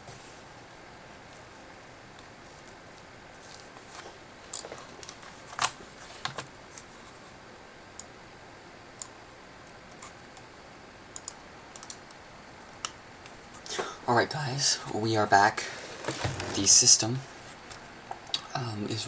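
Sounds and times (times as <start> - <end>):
low room tone: 0.0 - 19.0.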